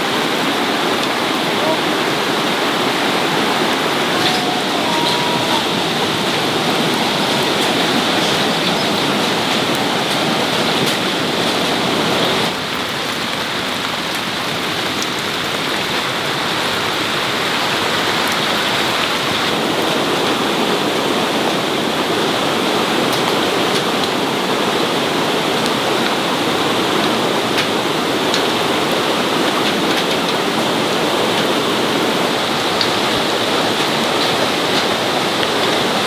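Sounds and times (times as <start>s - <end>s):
loud rush of water: 0.0s - 36.0s.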